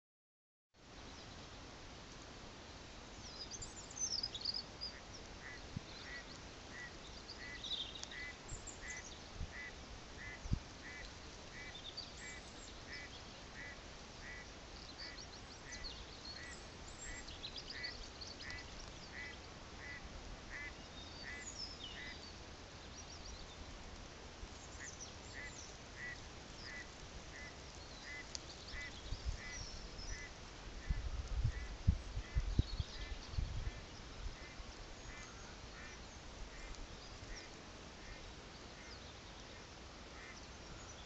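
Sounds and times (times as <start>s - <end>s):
light wind rumble: 0.8s - 41.0s
birds chirping faintly: 2.9s - 41.0s.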